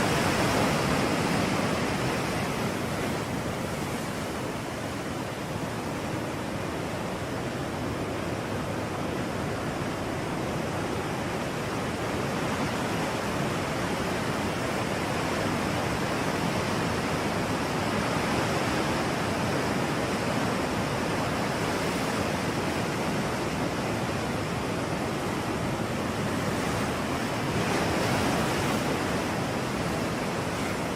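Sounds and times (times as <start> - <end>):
ocean waves rushing: 0.0 - 30.9.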